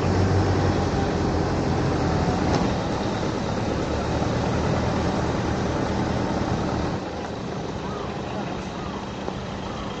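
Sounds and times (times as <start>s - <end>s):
tyres on dirt road: 0.0s - 10.0s
vehicle engine hum: 0.0s - 10.0s.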